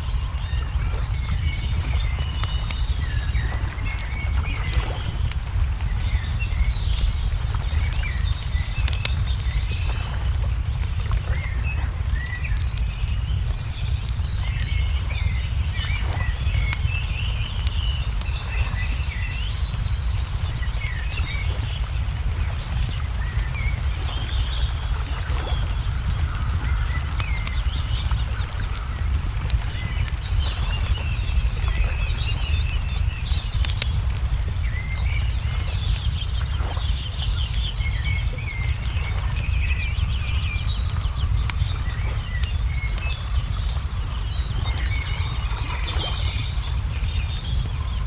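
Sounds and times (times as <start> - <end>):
low rumble: 0.0 - 48.0
small birds chirping: 0.0 - 48.0
wood fire crackling: 0.0 - 48.0.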